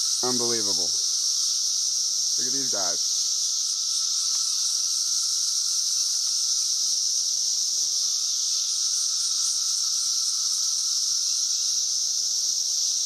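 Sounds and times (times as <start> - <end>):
cicadas shrill drone: 0.0 - 13.0.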